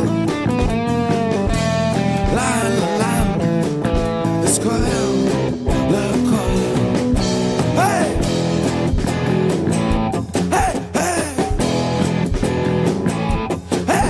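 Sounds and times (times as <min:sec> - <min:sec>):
rock music with electric guitars: 0:00.0 - 0:14.0.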